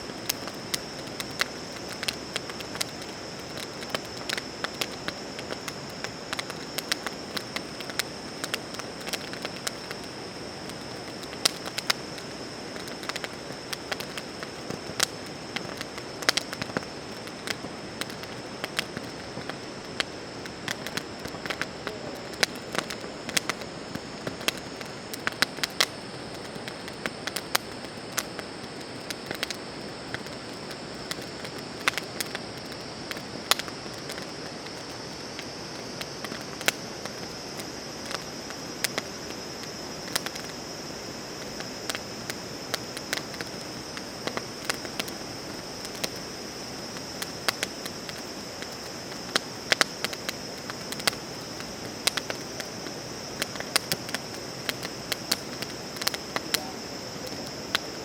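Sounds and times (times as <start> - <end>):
insects chirring: 0.0 - 58.0
wood fire crackling and popping: 0.0 - 58.0.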